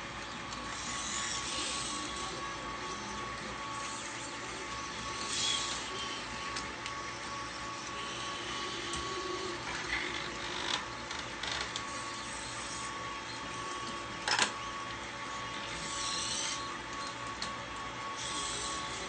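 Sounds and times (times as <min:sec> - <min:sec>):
robot arm motors whirring: 0:00.4 - 0:14.7, 0:15.3 - 0:19.0.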